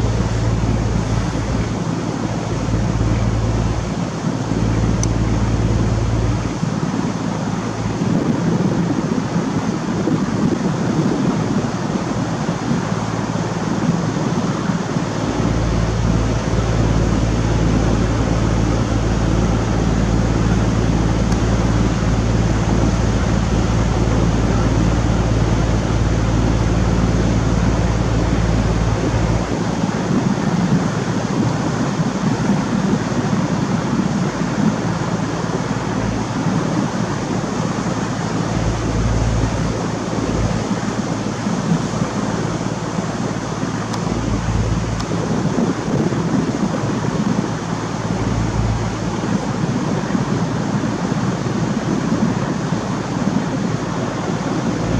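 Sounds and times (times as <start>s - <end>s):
deep hum: 0.0s - 10.7s, 11.4s - 51.1s
boat engine drone: 0.0s - 54.9s
wind and water rushing: 0.0s - 54.9s.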